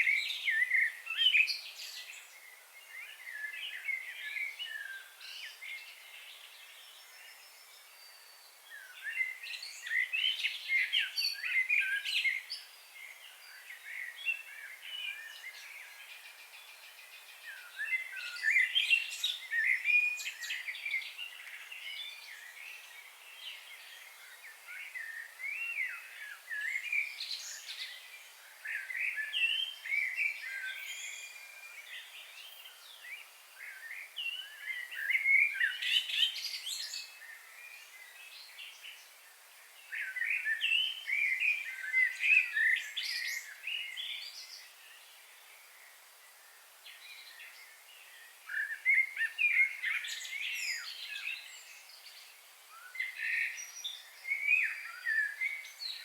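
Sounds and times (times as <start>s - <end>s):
birds singing and chirping: 0.0s - 45.9s, 46.9s - 56.0s.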